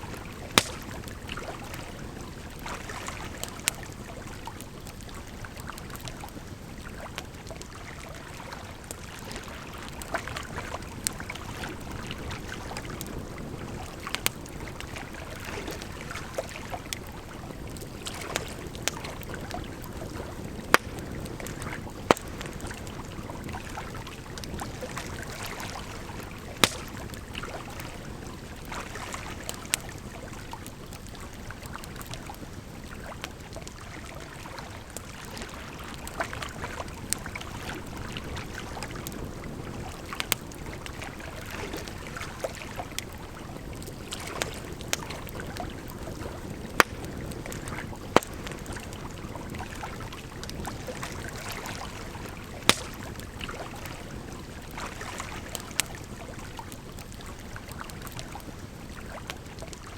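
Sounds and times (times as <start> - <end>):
campfire crackling: 0.0 - 59.9
flowing water: 0.0 - 59.9.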